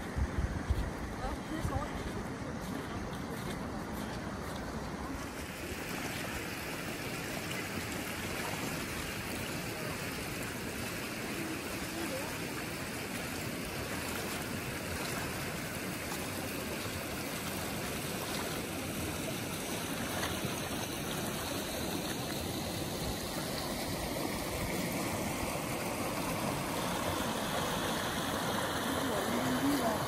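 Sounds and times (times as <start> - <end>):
creek water rushing over rocks: 0.0 - 30.0.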